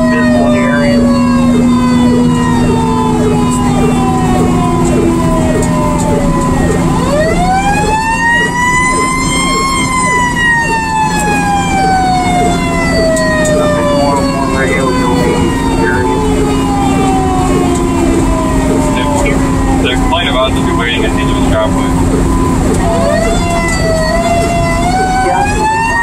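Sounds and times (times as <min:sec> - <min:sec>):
mechanical siren wailing: 0:00.0 - 0:26.0
truck engine running: 0:00.0 - 0:26.0.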